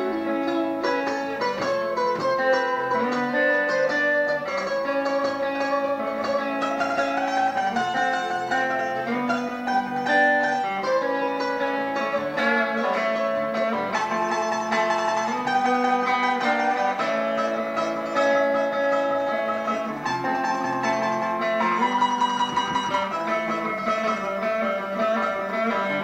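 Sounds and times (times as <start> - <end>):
acoustic guitar: 0.0 - 26.0
electric guitar: 0.0 - 26.0.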